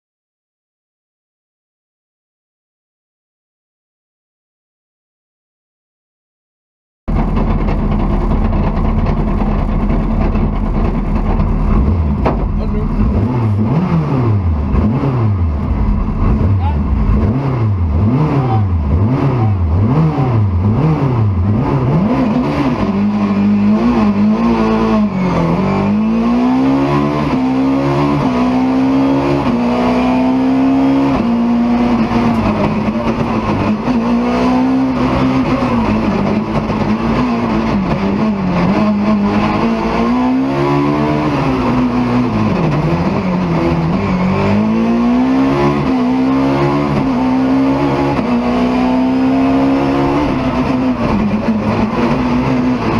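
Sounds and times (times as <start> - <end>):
car engine at full throttle: 7.1 - 52.9.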